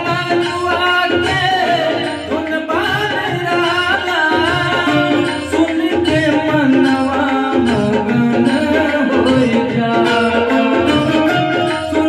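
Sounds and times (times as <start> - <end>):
harmonium melody: 0.0 - 12.0
man singing into microphone: 0.0 - 12.0
tabla drum loop: 0.0 - 12.0.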